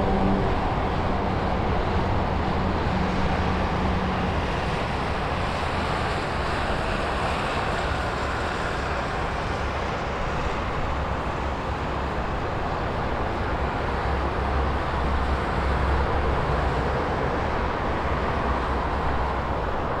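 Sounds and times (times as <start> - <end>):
highway traffic rushing: 0.0 - 20.0.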